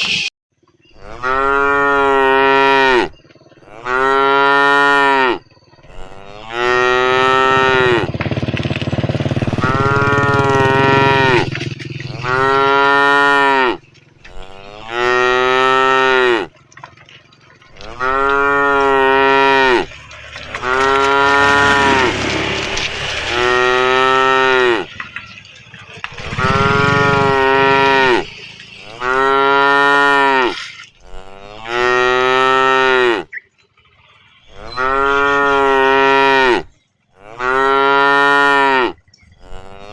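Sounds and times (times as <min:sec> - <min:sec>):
cattle mooing: 0:01.0 - 0:08.2, 0:09.4 - 0:33.4, 0:34.5 - 0:39.9
lower moo: 0:01.0 - 0:08.2, 0:09.4 - 0:16.6, 0:17.8 - 0:24.9, 0:26.1 - 0:28.3, 0:28.9 - 0:33.3, 0:34.5 - 0:39.9.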